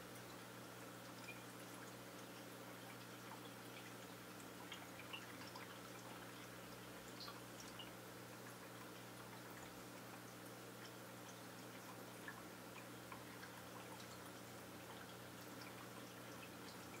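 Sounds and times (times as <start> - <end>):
soft ticks and drips: 0.0 - 17.0.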